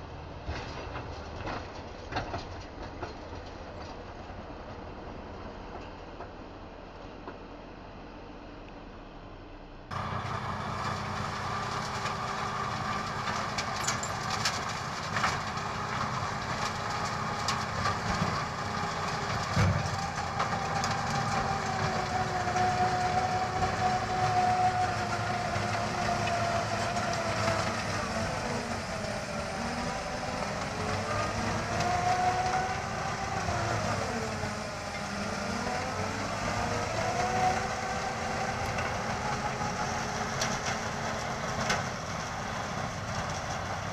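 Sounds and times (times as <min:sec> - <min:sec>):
diesel tractor engine under load: 0:00.0 - 0:43.9.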